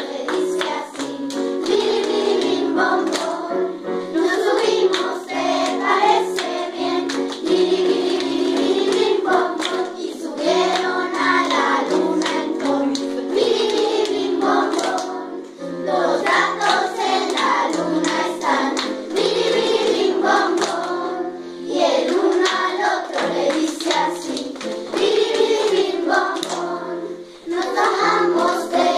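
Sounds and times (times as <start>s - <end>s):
children's choir singing: 0.0s - 28.9s.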